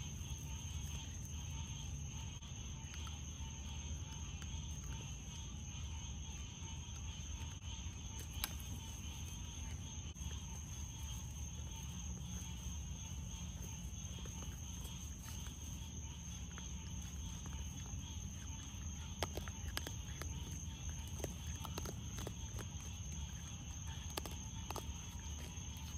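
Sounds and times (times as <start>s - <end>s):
animals chewing dry food: 0.0s - 25.9s
crickets chirping: 0.0s - 25.9s
low steady hum: 0.0s - 25.9s.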